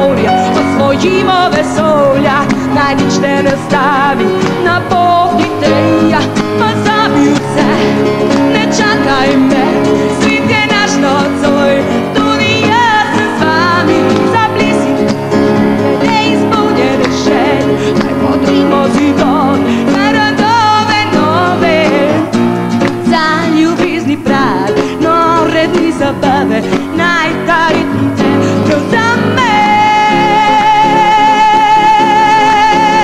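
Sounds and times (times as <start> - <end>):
pop-rock band playing: 0.0 - 33.0
woman singing: 0.0 - 33.0.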